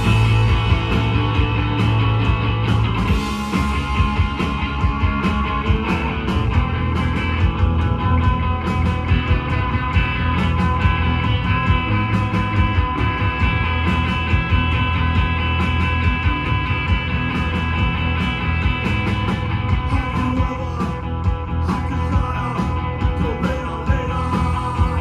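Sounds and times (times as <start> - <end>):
bass guitar: 0.0 - 25.0
drums: 0.0 - 25.0
electric guitar: 0.0 - 25.0.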